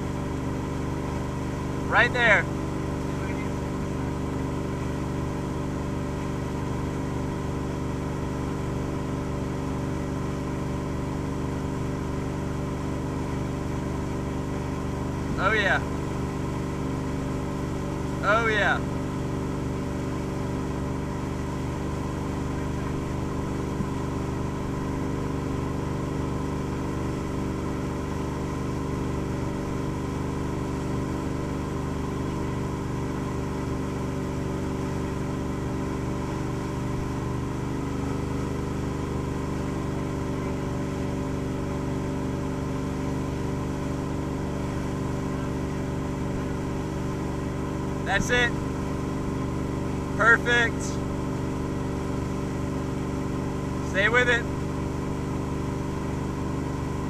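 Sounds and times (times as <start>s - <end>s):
boat engine droning: 0.0s - 57.0s
churning wake rushing: 0.0s - 57.0s.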